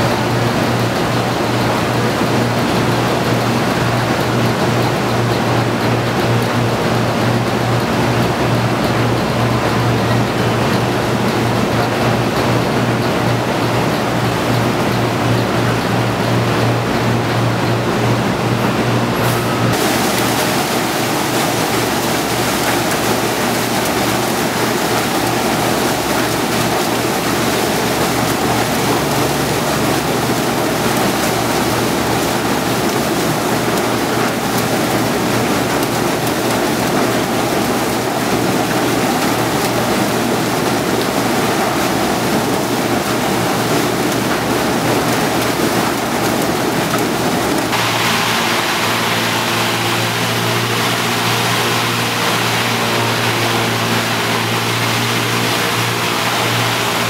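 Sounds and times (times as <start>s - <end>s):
sugarcane stalks clattering on conveyor: 0.0s - 57.0s.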